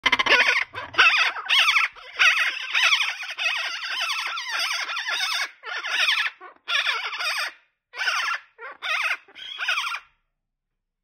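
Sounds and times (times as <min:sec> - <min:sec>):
parakeets chattering: 0:00.0 - 0:10.0.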